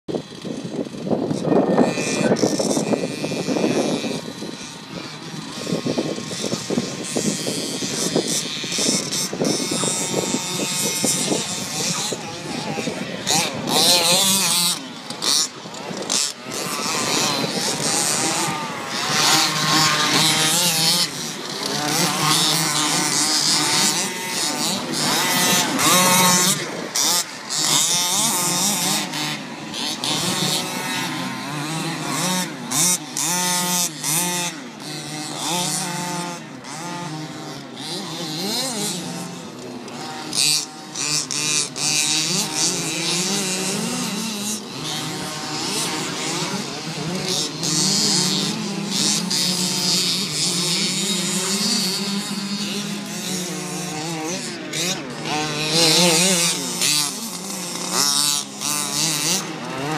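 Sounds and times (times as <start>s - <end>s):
toy car motor revving: 0.1s - 59.9s.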